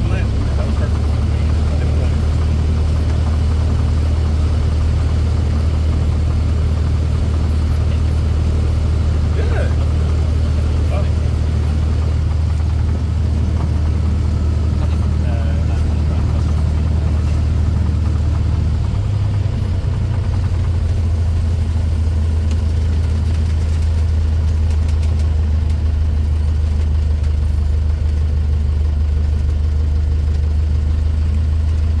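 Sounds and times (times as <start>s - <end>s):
small plane engine idling: 0.0s - 32.0s.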